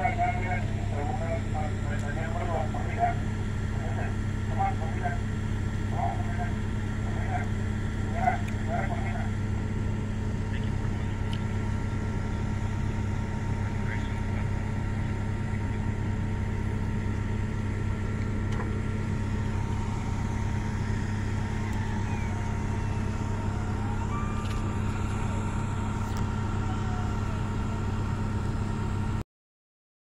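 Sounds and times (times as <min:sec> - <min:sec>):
idling vehicle engines hum: 0:00.0 - 0:29.2.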